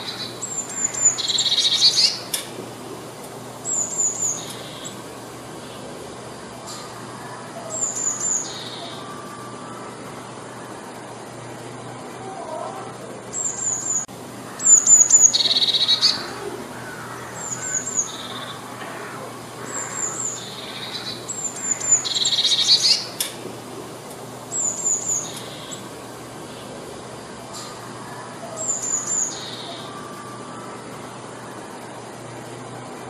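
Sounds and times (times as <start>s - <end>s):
small bird singing: 0.0s - 2.5s, 3.5s - 5.9s, 6.5s - 11.0s, 12.2s - 23.3s, 24.0s - 32.0s.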